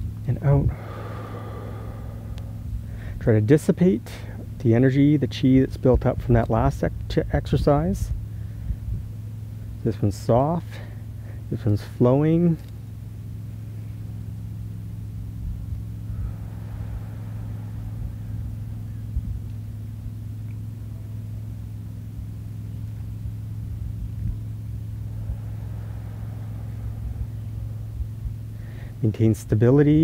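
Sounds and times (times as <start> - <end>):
low rumble: 0.0 - 11.9, 12.5 - 30.0
low mechanical hum: 0.0 - 30.0.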